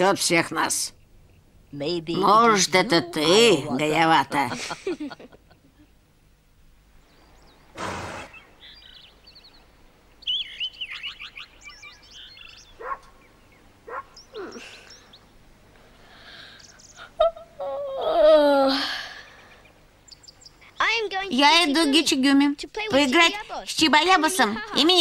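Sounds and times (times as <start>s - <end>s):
birds chirping: 0.0s - 17.6s, 19.0s - 25.0s.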